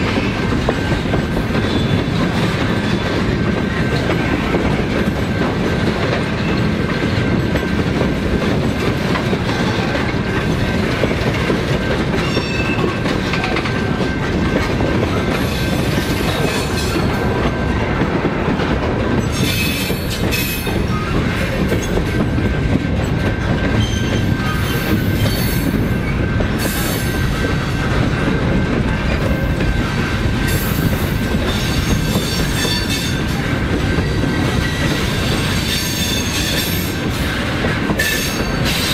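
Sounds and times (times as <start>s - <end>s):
steel wheels clattering on rail: 0.0s - 38.9s.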